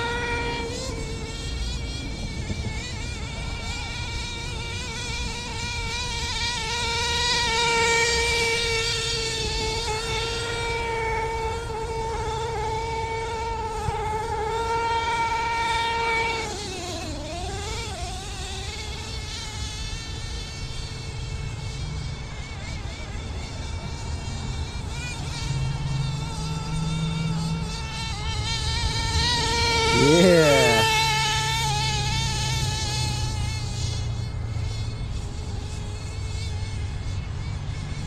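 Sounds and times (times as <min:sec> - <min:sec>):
rc truck engine buzzing: 0:00.0 - 0:38.0.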